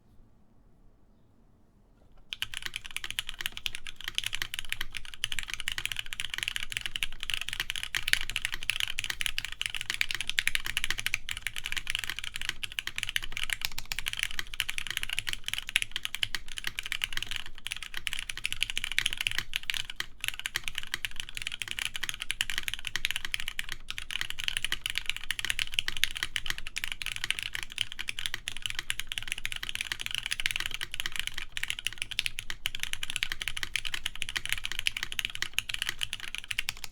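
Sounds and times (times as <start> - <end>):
fast mechanical keyboard typing: 2.3 - 36.9.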